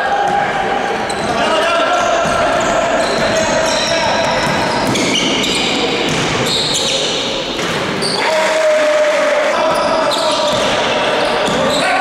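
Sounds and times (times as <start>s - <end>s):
voices echoing in gym: 0.0s - 12.0s.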